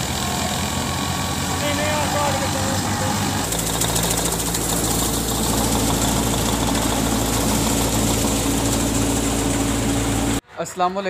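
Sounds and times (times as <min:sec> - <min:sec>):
thresher machine drone: 0:00.0 - 0:10.4.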